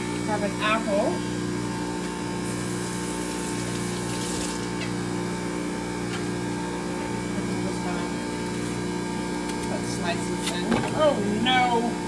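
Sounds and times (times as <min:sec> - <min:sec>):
juicer motor humming: 0:00.0 - 0:12.0.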